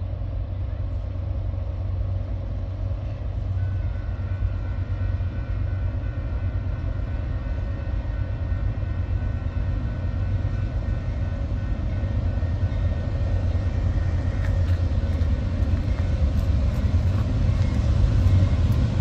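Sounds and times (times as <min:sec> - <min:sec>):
locomotive engine low rumble: 0:00.0 - 0:19.0.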